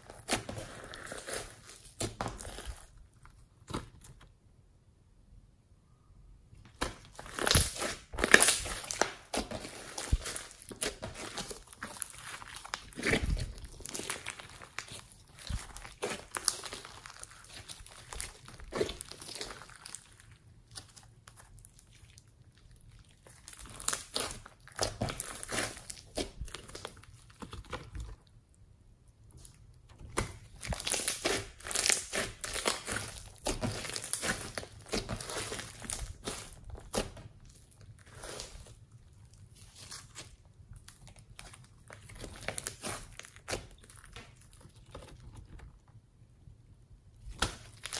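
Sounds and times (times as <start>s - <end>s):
slime crackling and squishing: 0.0s - 4.2s, 6.6s - 47.9s.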